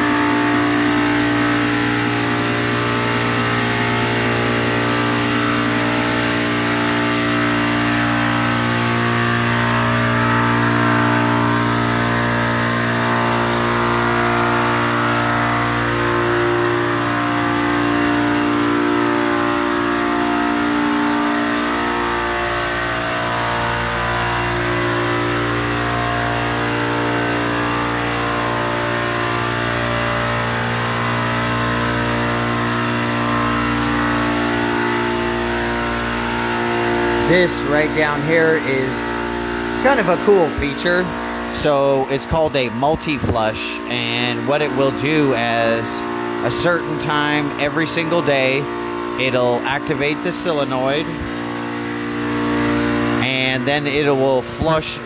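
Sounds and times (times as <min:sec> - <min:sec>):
compressors humming and whining: 0:00.0 - 0:55.0.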